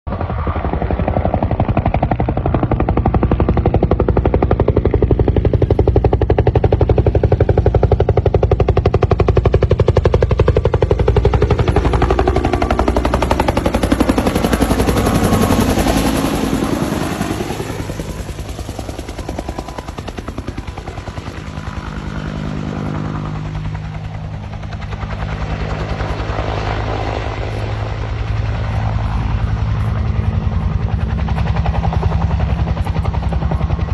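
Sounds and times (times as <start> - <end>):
helicopter rotor beating: 0.1 - 33.9
turbine whine: 1.6 - 33.9.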